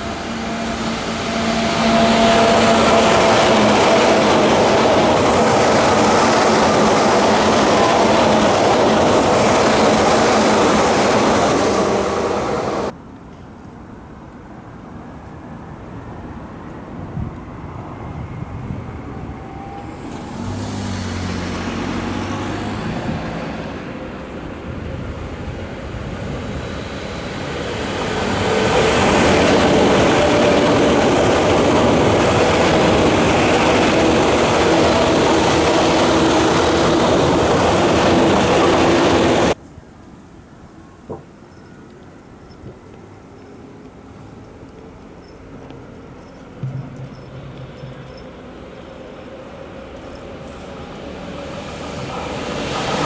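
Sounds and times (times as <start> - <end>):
electric train passing: 0.0 - 13.0, 14.9 - 39.6, 42.9 - 53.0.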